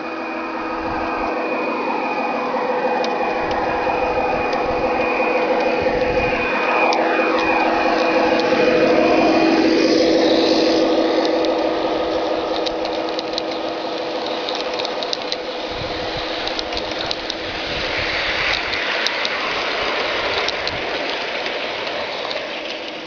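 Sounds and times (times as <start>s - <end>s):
electric motor and gear whine: 0.0s - 23.0s
wheels clicking over rail joints: 0.0s - 23.0s.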